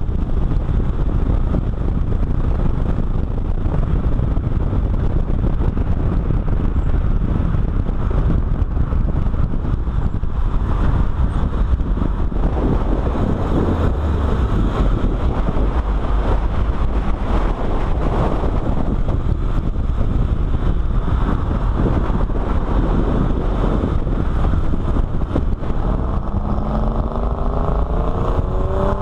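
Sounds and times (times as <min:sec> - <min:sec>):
car engine running: 0:00.0 - 0:29.0
road noise: 0:00.0 - 0:29.0
wind buffeting microphone: 0:00.0 - 0:29.0.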